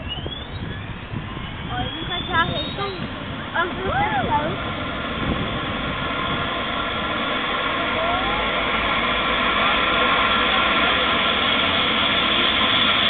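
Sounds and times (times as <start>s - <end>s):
helicopter rotor rushing: 0.0s - 13.0s
helicopter turbine whine: 0.0s - 13.0s.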